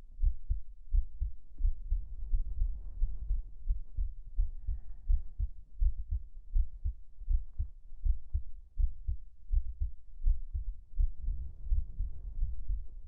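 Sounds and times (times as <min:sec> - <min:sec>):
heartbeat thumps: 0:00.0 - 0:13.0.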